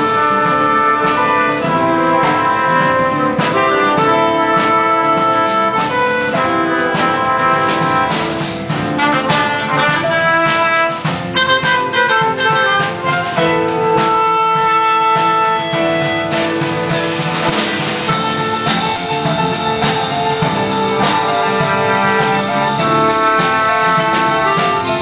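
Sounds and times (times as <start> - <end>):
brass melody with orchestral backing: 0.0 - 25.0.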